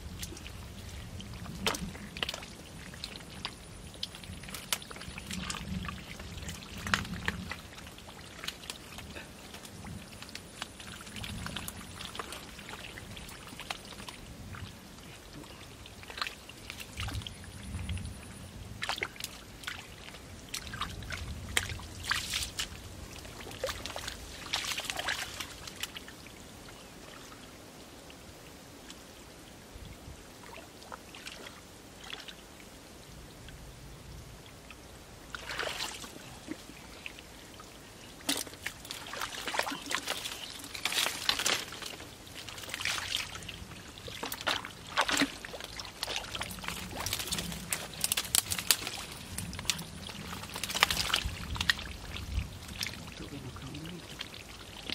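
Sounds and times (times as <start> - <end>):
muddy water splashing: 0.0 - 27.6, 30.4 - 32.5, 34.8 - 54.9.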